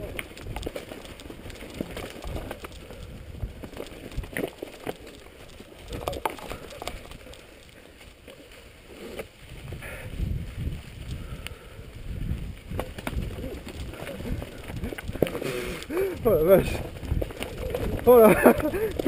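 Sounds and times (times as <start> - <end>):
bike tyres rolling through leaves: 0.0 - 19.0.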